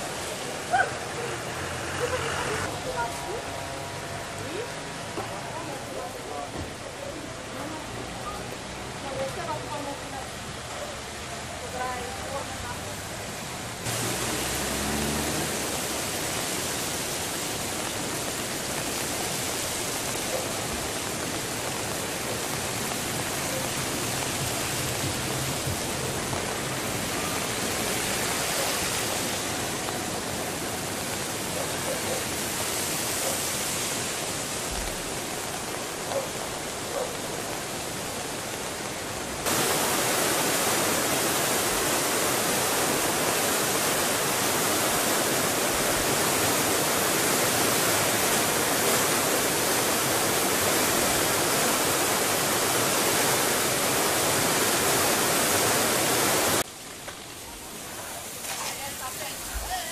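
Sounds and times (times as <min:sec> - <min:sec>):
floodwater and rain rushing: 0:00.0 - 0:59.9
swollen river rushing: 0:00.0 - 0:59.9.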